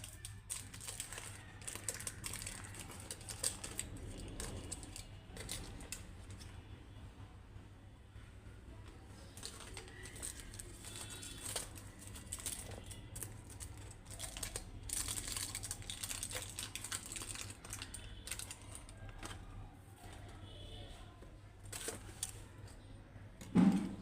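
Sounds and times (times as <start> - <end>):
aluminium foil crinkling: 0.0 - 6.5, 9.2 - 20.4, 21.6 - 23.6.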